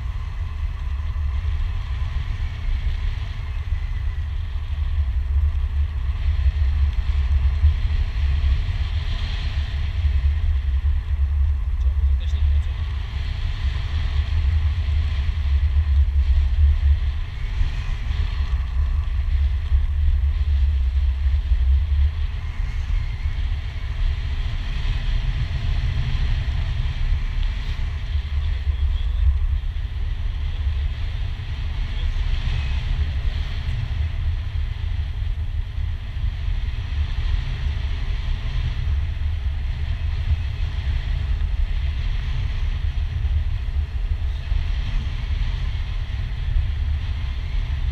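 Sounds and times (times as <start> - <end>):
airflow buffeting microphone: 0.0 - 47.9.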